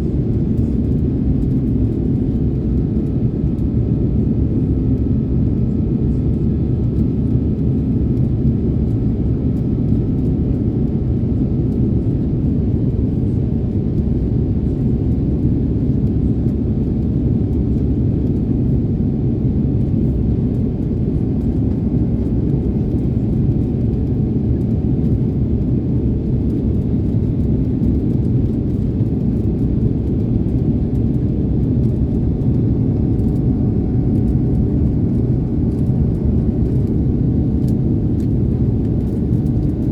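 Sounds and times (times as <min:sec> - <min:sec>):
aircraft cabin low rumble: 0:00.0 - 0:39.9.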